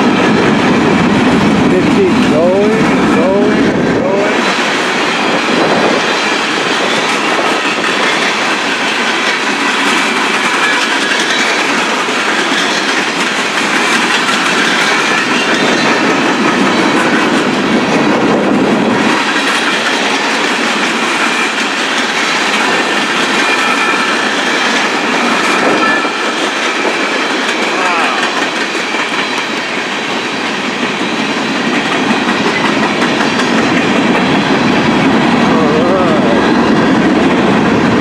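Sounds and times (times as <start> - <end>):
steel wheels clattering on rails: 0.0 - 38.0.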